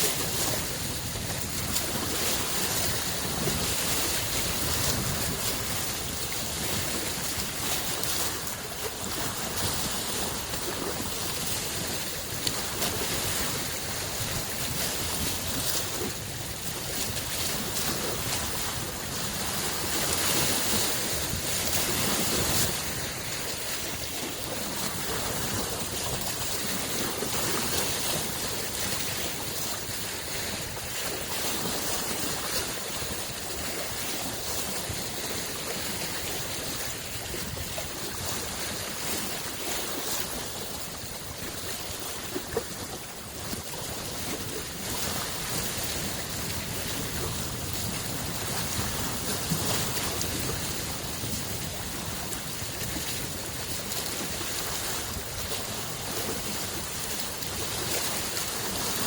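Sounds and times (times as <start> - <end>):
lake waves lapping on shore: 0.0 - 59.0.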